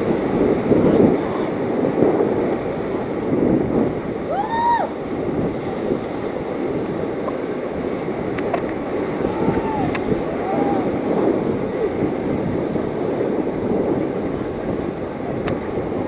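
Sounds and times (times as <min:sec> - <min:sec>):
whitewater rapids rushing: 0:00.0 - 0:16.0
wind buffeting microphone: 0:00.0 - 0:16.0.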